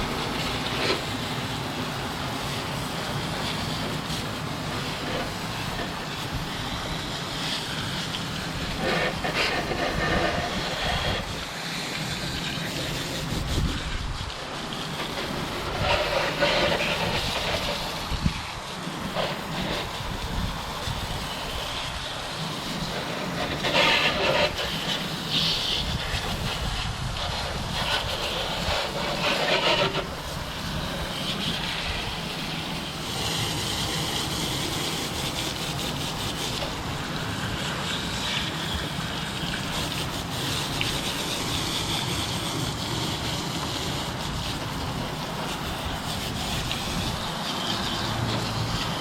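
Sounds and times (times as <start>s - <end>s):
hose spraying water: 0.0s - 49.0s.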